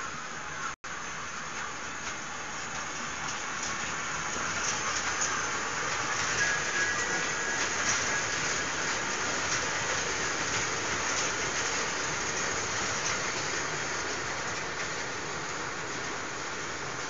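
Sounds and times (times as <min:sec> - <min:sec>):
train wheels hissing on rails: 0:00.0 - 0:17.0
faint clicks of wheels: 0:01.6 - 0:17.0.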